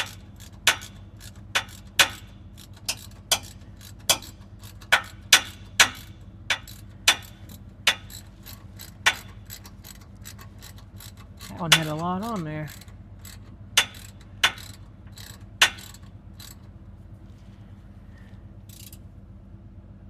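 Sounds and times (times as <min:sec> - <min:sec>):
hand ratchet clicking: 0:00.0 - 0:16.7, 0:18.7 - 0:19.0.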